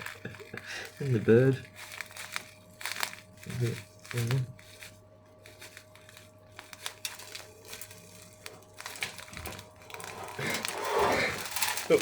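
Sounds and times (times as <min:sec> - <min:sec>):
stuffing crackling in chicken: 0:00.0 - 0:12.0.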